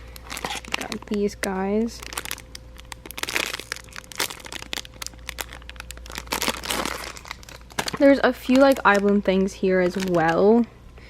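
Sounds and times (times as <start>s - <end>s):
crinkling and rustling: 0.0s - 10.7s.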